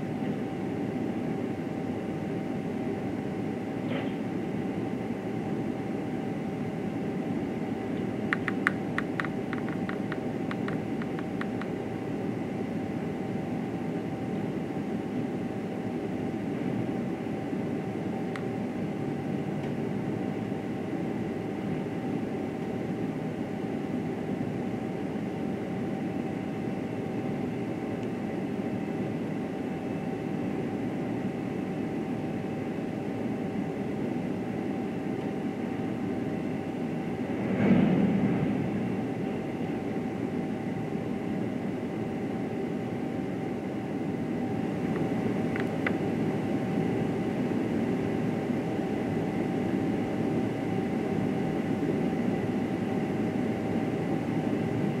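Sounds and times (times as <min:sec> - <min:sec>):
faint steady whine: 0:00.0 - 0:55.0.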